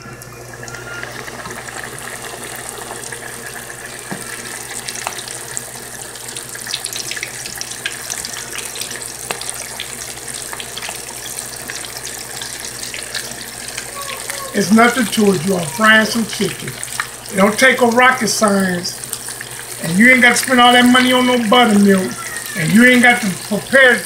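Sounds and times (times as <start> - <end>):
chicken deep-frying in hot oil: 0.0 - 24.0.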